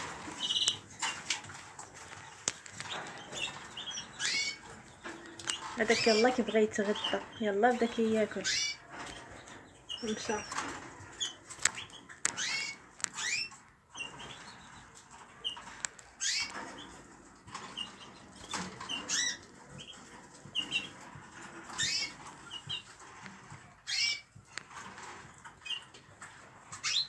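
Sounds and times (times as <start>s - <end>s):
cage birds chirping: 0.0s - 27.0s.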